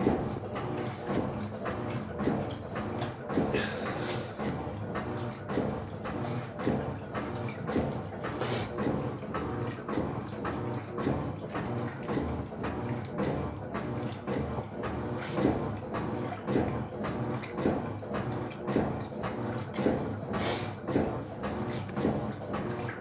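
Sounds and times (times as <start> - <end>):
washing machine rhythmic churning: 0.0 - 23.0.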